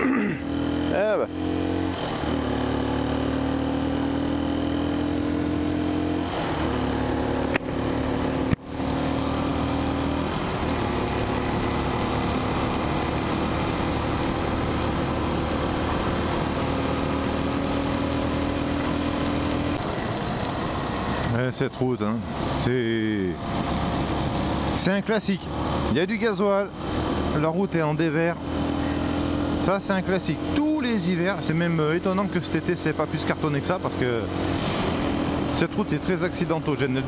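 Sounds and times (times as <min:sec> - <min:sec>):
motorcycle engine running: 0:00.0 - 0:37.0
tyre noise on wet road: 0:05.2 - 0:29.4, 0:30.5 - 0:37.0.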